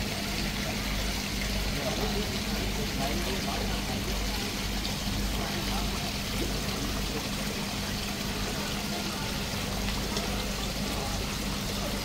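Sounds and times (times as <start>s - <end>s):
water trickling into pond: 0.0s - 12.0s.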